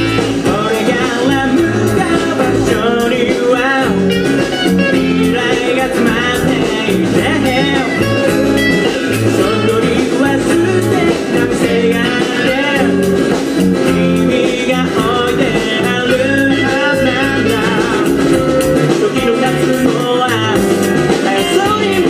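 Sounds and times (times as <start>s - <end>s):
acoustic guitar: 0.0s - 22.0s
bass guitar: 0.0s - 22.0s
drums beat: 0.0s - 22.0s
electric guitar: 0.0s - 22.0s
man singing: 0.0s - 22.0s.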